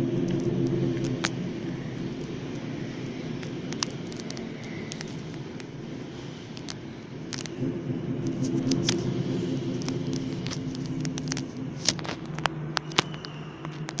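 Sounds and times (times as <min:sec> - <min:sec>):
firecrackers banging: 0:00.0 - 0:14.0
low engine rumble: 0:00.0 - 0:14.0.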